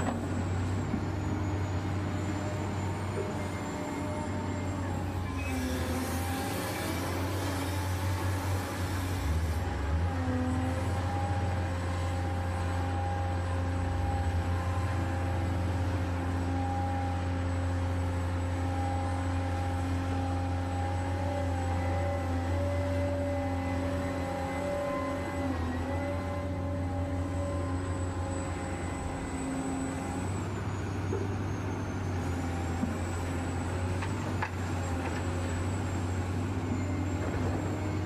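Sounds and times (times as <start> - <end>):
electric motors whining: 0.0 - 17.2, 18.4 - 38.0.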